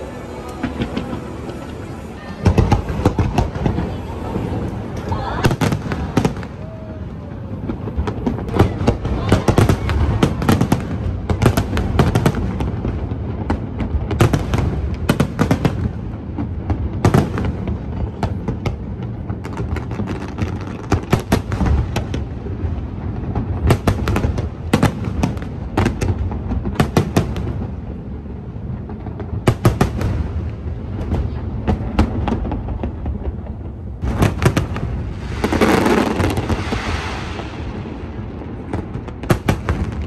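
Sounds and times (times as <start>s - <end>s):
continuous low rumble: 0.0s - 35.5s
fireworks cracks and bangs: 0.0s - 40.0s.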